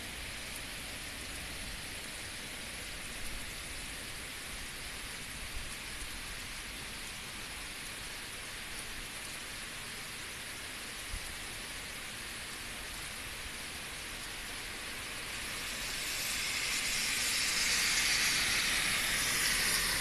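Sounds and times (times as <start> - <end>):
heavy rain on road: 0.0 - 20.0.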